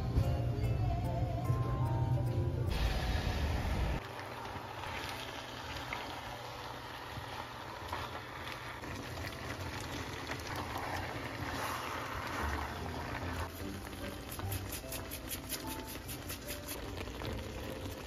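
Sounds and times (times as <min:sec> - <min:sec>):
stir-fry sizzling in a frying pan: 0:02.7 - 0:18.0.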